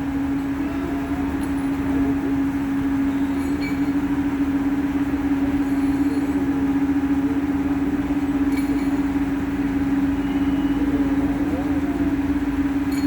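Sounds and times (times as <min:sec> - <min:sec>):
motor humming with flutter: 0:00.0 - 0:13.0.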